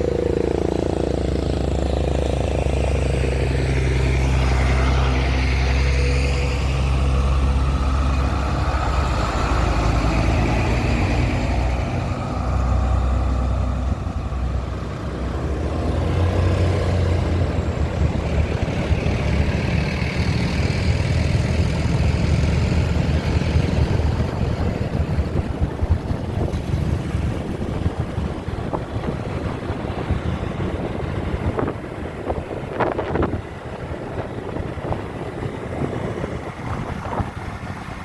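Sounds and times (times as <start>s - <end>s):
diesel truck engine drone: 0.0s - 38.0s
wind and road noise: 0.0s - 38.0s.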